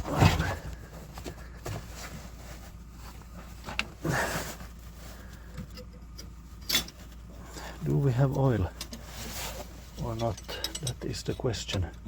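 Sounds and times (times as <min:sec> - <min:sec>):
scraping rustle: 0:00.0 - 0:11.4
low steady hum: 0:00.0 - 0:12.0.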